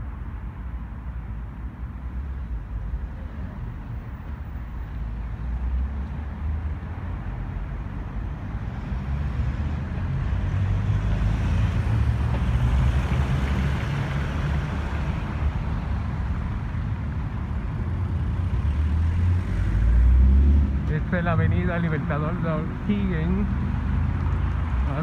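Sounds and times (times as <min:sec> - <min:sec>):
cars driving past: 0:00.0 - 0:25.0
low traffic rumble: 0:00.0 - 0:25.0.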